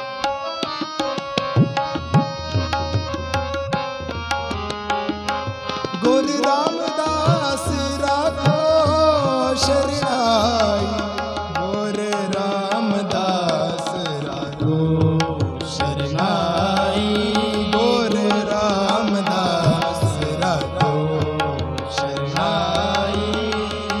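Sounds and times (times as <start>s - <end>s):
harmonium chords: 0.0s - 24.0s
tabla strokes: 0.2s - 24.0s.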